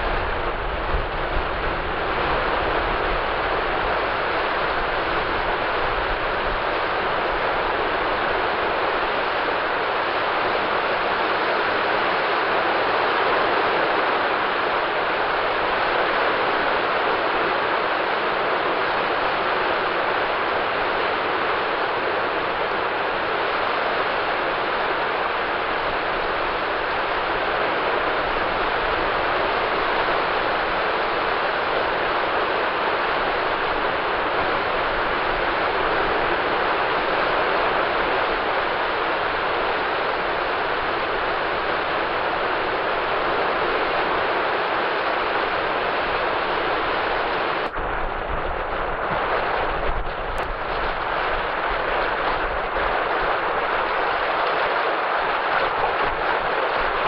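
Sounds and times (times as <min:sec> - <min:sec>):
waves washing on sand: 0:00.0 - 0:57.0.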